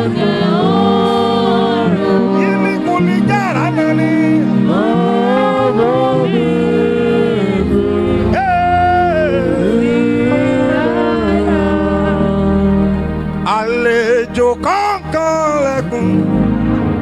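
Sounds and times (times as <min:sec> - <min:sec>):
solo voice singing gospel: 0:00.0 - 0:17.0
sustained keyboard accompaniment: 0:00.0 - 0:17.0.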